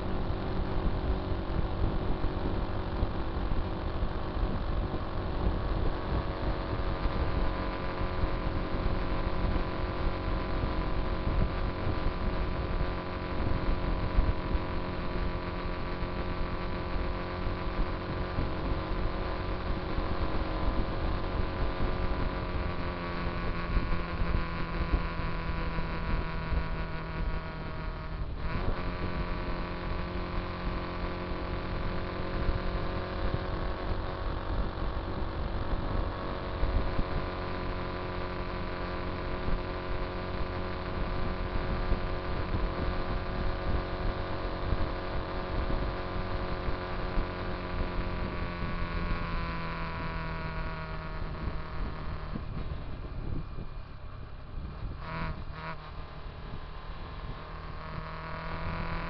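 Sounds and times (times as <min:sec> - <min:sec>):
motorcycle engine drone: 0:00.0 - 0:59.0
wind rumble on microphone: 0:00.0 - 0:59.0.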